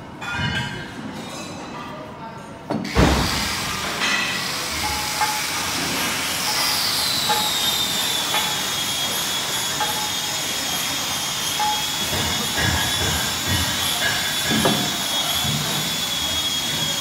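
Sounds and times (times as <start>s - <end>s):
factory machinery hiss and whine: 2.7s - 17.0s.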